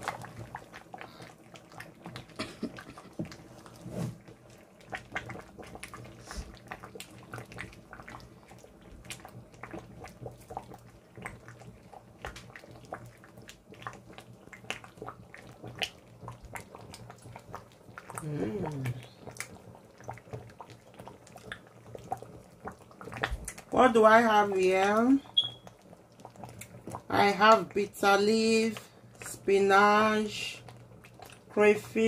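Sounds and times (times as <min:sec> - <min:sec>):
low steady hum: 0:00.0 - 0:32.0
soup simmering with popping bubbles: 0:00.0 - 0:32.0.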